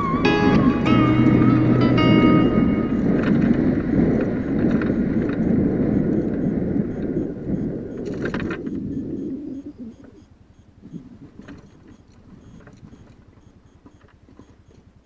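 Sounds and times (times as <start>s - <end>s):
wind on microphone: 0.0s - 13.4s
low pulsing: 0.0s - 13.7s
vehicle engine rumble: 0.0s - 15.0s.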